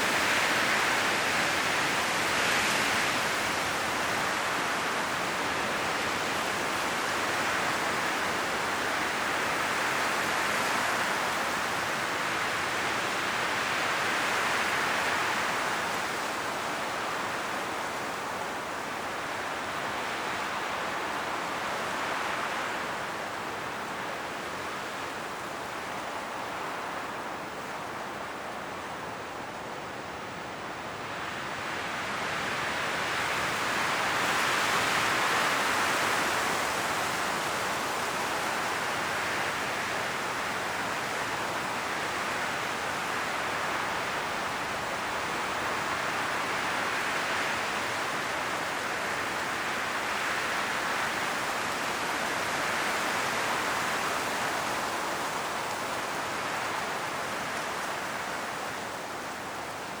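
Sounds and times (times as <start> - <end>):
strong wind through tree leaves: 0.0 - 60.0.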